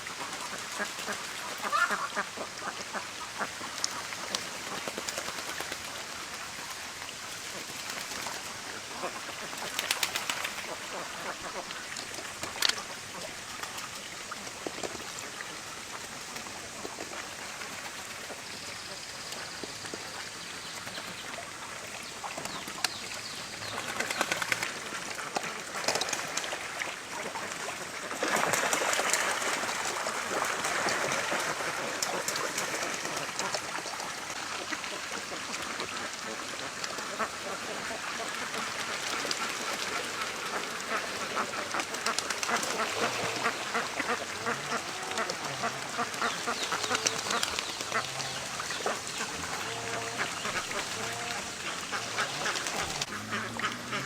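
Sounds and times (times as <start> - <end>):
flock of ducks quacking: 0.0 - 5.7, 7.4 - 20.3, 23.6 - 54.0.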